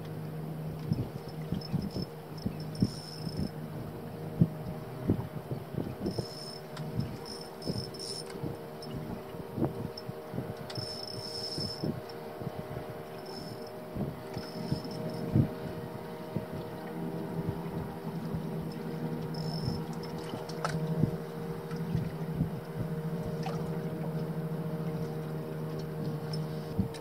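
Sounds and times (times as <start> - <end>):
outboard motor running: 0.0 - 27.0
water sloshing against hull: 0.0 - 27.0.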